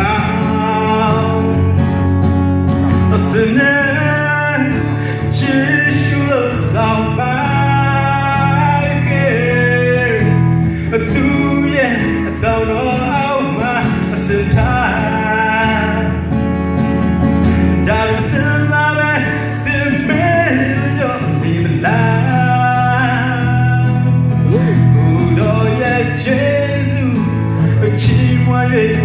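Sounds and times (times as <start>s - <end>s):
man singing into microphone: 0.0s - 1.9s, 3.0s - 16.4s, 17.7s - 29.0s.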